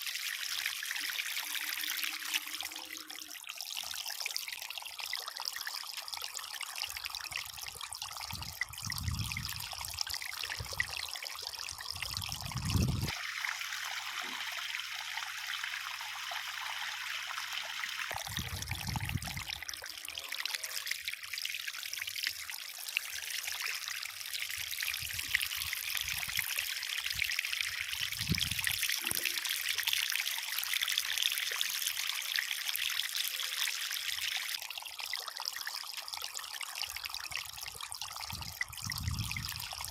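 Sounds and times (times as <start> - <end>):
water trickling over waterfall: 0.0 - 39.9.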